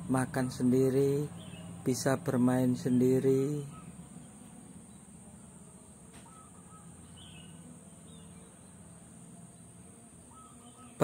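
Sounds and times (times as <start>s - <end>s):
faint chirp: 0.0s - 11.0s.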